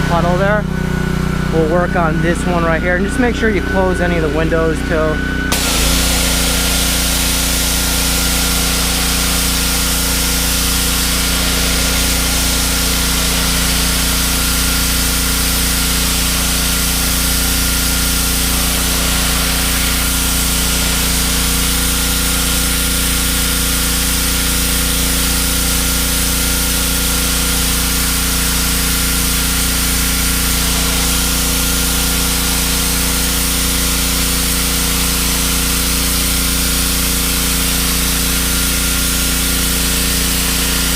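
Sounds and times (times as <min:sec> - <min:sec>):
pressure washer motor hum: 0:00.0 - 0:40.9
water jet spraying hiss: 0:05.5 - 0:40.9.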